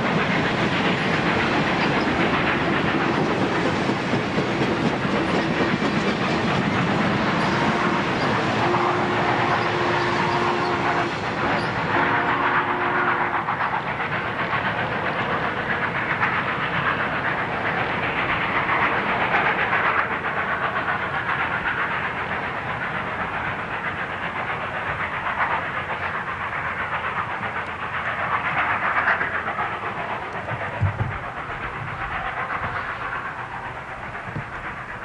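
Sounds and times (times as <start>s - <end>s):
rushing hiss of wheels and steam: 0.0s - 35.0s
train cars rolling on rails: 0.0s - 35.0s.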